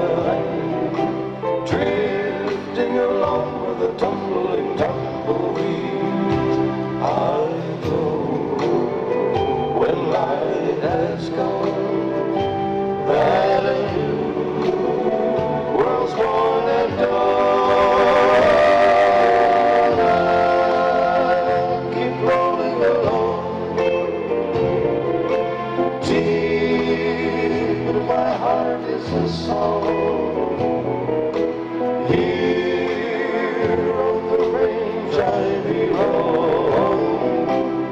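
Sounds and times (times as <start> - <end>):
men singing in close harmony: 0.0 - 25.2, 25.8 - 30.8, 32.0 - 37.9
low bass line: 0.0 - 37.9
strummed guitars: 0.0 - 37.9.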